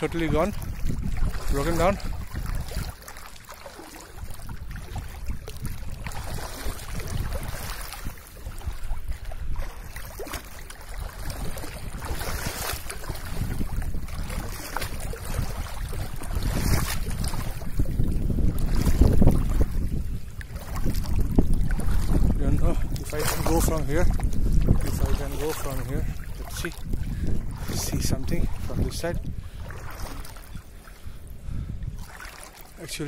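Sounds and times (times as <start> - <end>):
water lapping around boat: 0.0 - 33.0
wind gusting on microphone: 0.0 - 33.0.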